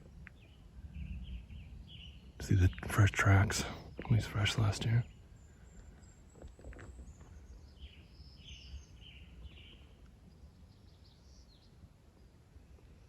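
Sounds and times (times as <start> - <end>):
faint songbird calls: 0.0 - 11.8.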